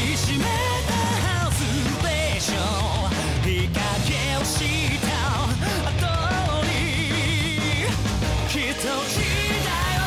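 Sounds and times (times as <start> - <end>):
hard rock band playing: 0.0 - 10.0.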